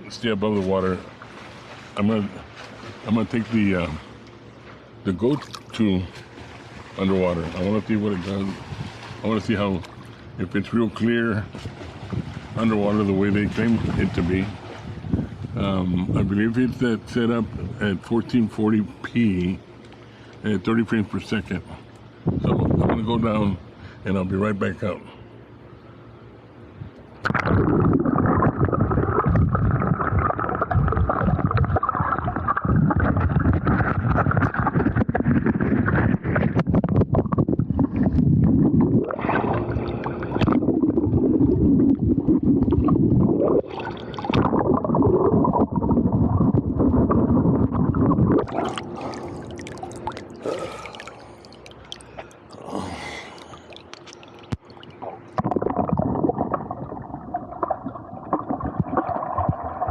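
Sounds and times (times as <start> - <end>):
muffled underwater gurgling rumble: 0.0 - 59.9.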